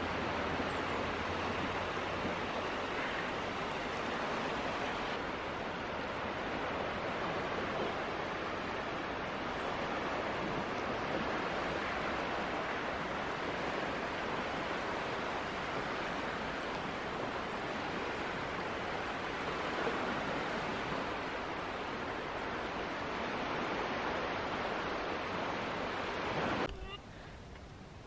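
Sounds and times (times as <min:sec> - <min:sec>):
sea waves washing on shore: 0:00.0 - 0:28.0.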